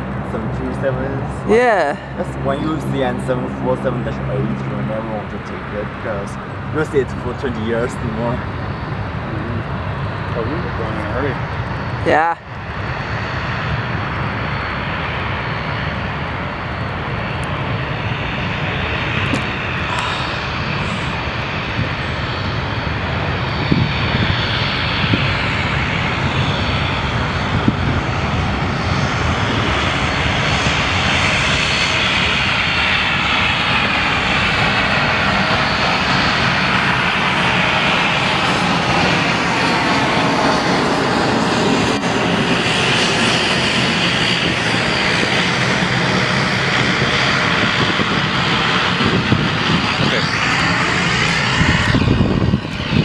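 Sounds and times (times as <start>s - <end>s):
jet engines running: 0.0s - 53.0s
turboprop engines taxiing: 0.0s - 53.0s.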